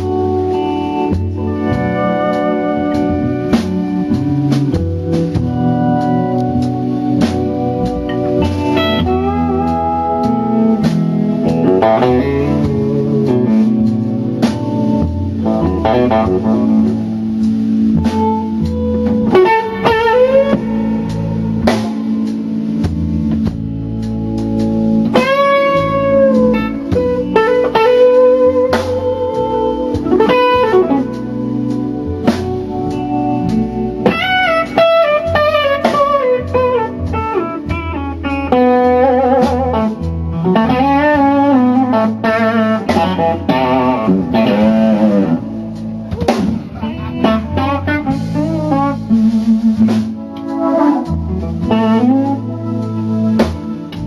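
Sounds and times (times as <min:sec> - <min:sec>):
bass and drums: 0:00.0 - 0:54.0
blues electric guitar lead: 0:00.0 - 0:54.0.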